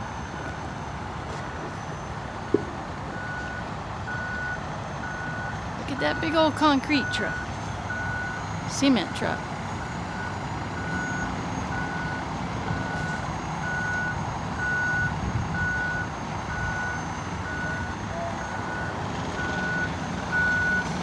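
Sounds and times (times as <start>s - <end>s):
diesel engine rumble: 0.0s - 21.0s
truck reversing alarm beeping: 0.0s - 21.0s.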